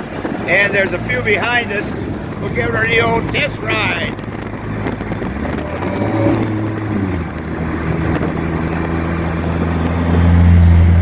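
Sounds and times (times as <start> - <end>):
turbocharged engine running: 0.0 - 11.0.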